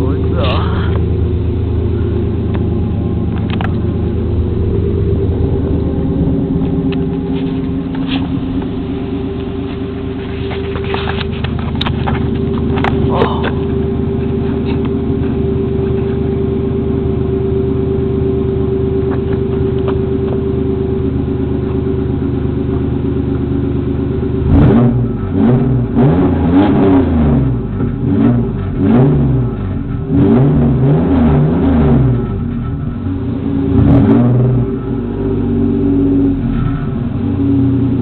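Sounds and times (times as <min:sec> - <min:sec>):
pickup truck engine idling and revving: 0:00.0 - 0:38.0.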